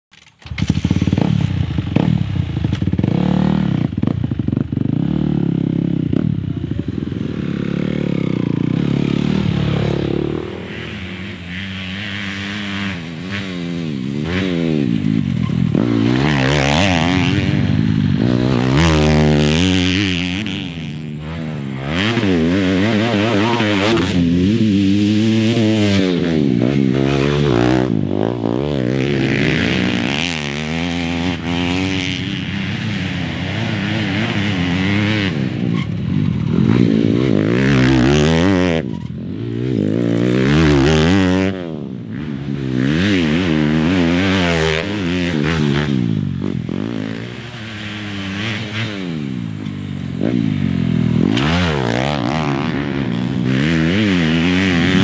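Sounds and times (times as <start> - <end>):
dirt bike engines revving: 0.2 - 55.0.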